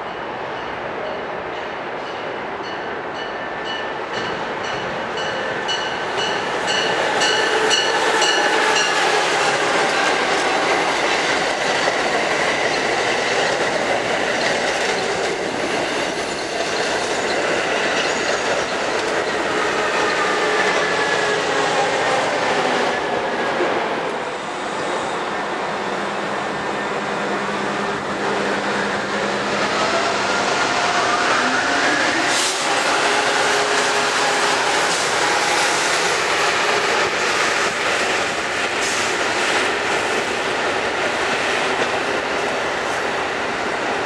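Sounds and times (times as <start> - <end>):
rush of train wheels on rail: 4.0 - 44.0.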